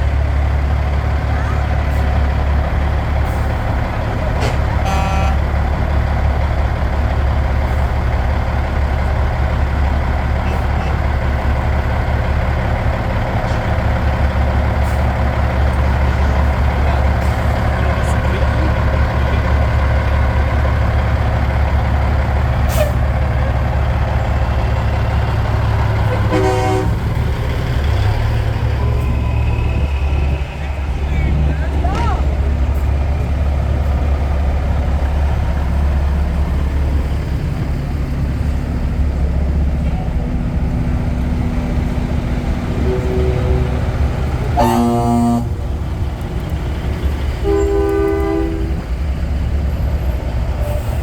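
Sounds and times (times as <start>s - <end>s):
trucks' diesel engines driving past: 0.0s - 51.0s.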